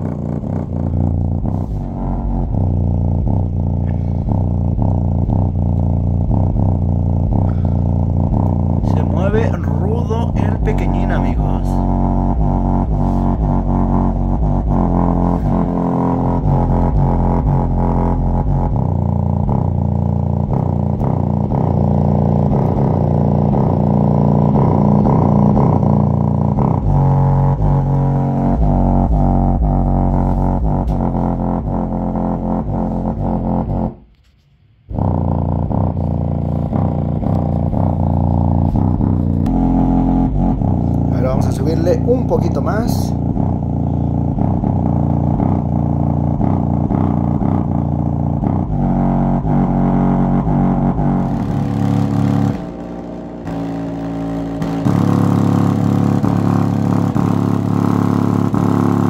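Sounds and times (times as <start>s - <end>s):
subwoofer bass drone: 0.0s - 59.0s.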